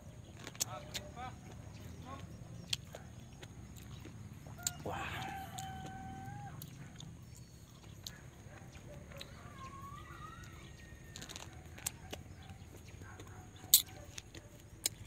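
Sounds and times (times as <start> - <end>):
distant chickens: 0.0 - 14.9
birds calling: 0.0 - 15.0.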